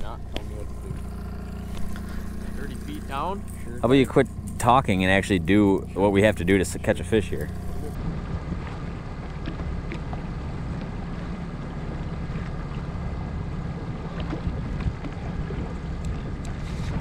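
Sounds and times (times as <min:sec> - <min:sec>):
outboard motor running: 0:00.0 - 0:17.0
wind buffeting microphone: 0:00.0 - 0:17.0.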